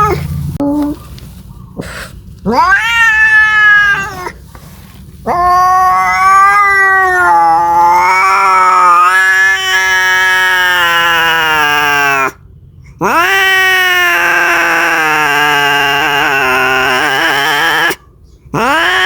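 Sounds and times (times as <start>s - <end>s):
cat yowling: 0.0s - 0.2s, 1.8s - 4.4s, 5.2s - 12.4s, 13.0s - 19.0s.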